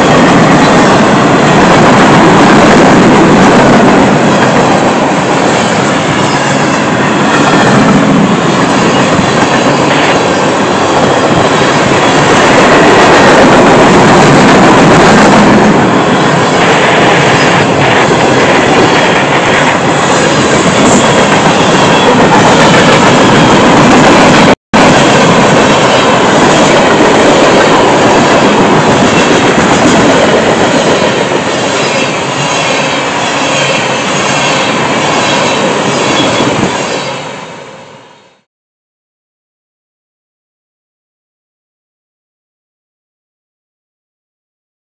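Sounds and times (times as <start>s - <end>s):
train wheels rolling on rails: 0.0s - 38.2s.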